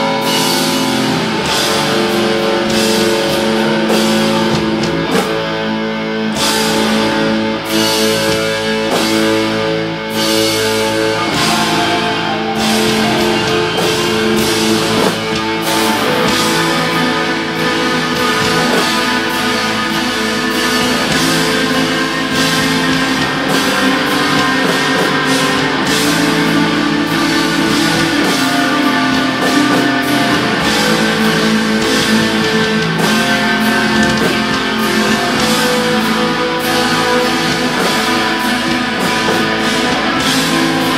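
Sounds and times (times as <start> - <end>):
distorted electric guitars: 0.0 - 40.9
drum kit beat: 0.0 - 40.9.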